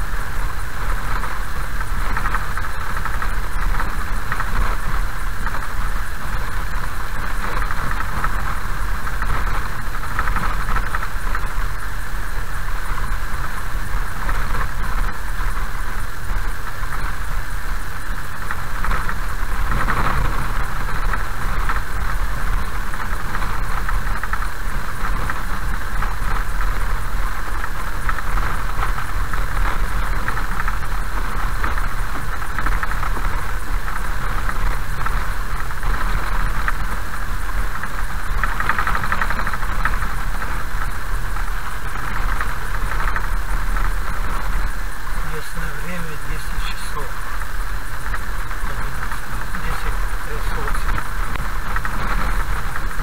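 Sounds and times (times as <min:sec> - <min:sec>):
car driving on gravel: 0:00.0 - 0:53.0.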